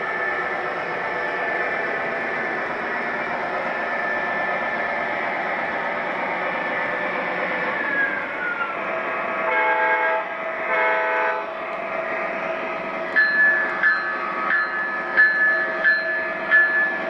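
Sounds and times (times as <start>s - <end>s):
electronic diesel engine hum: 0.0s - 17.0s
model trains rolling on track: 0.0s - 17.0s.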